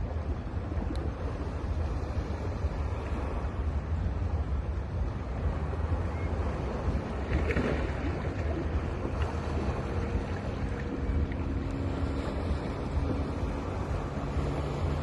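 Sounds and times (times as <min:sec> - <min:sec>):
wind rumbling on microphone: 0:00.0 - 0:15.0
sea surf washing onto beach: 0:00.9 - 0:15.0.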